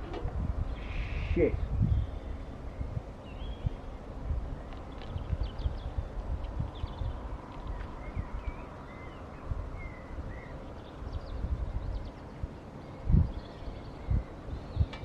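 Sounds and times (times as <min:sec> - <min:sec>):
low rumble on microphone: 0:00.0 - 0:15.0
small birds chirping: 0:00.6 - 0:15.0.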